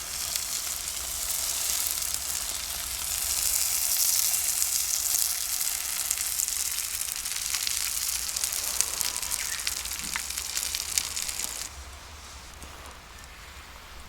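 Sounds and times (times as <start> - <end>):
food sizzling in a pan: 0.0 - 13.8.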